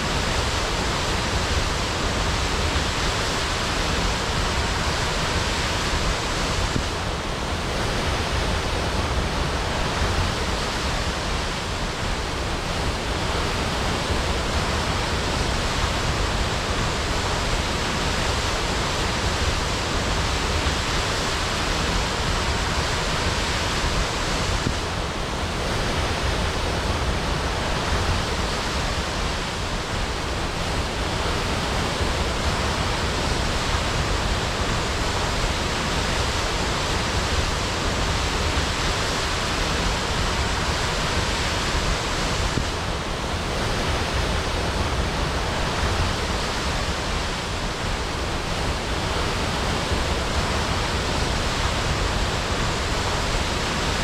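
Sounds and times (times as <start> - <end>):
waterfall crashing: 0.0 - 54.0.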